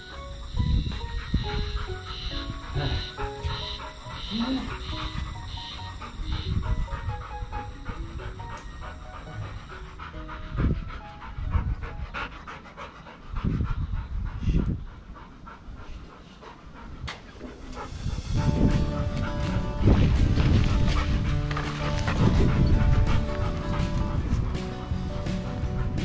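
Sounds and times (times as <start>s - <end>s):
dog panting hard: 0.0s - 26.0s
light background music: 0.0s - 26.0s.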